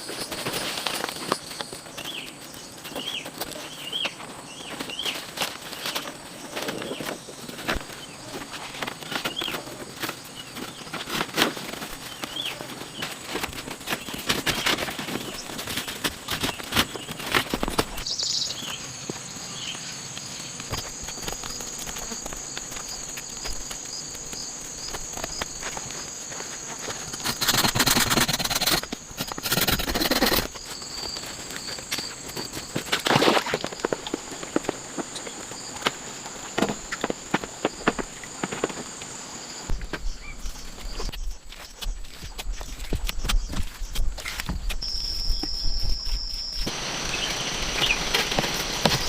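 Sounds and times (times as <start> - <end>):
high insect trill: 0.0 - 49.0.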